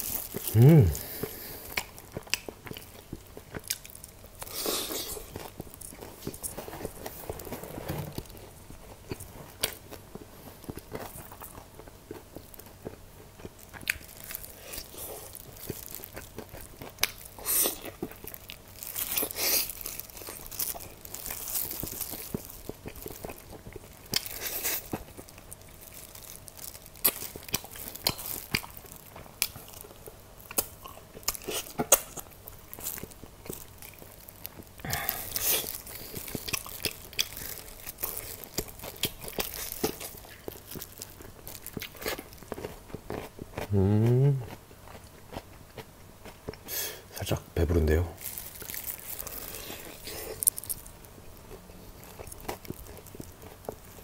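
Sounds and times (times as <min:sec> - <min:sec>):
crunching and chewing fried chicken: 0:00.0 - 0:54.0.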